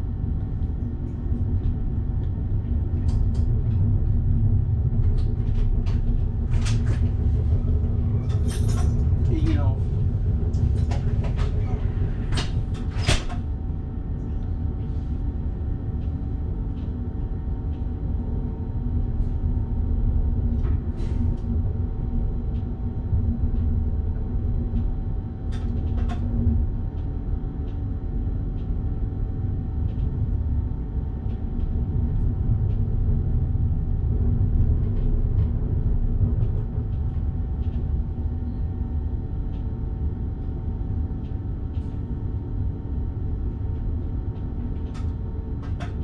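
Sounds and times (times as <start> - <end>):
electric train rumbling: 0.0 - 27.1, 27.8 - 46.0.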